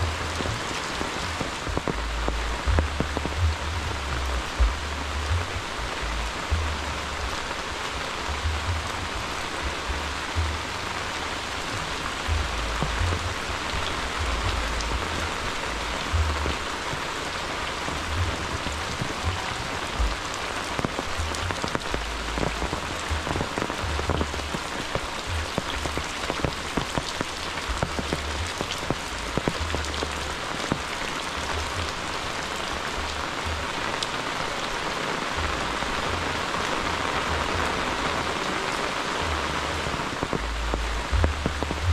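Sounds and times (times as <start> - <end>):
raindrops ticking close by: 0.0 - 41.9
steady rain falling: 0.0 - 41.9.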